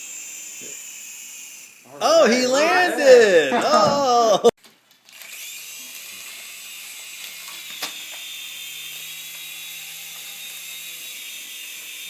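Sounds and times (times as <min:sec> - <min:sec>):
toy helicopter rotors whirring: 0:00.0 - 0:03.2, 0:05.0 - 0:12.0.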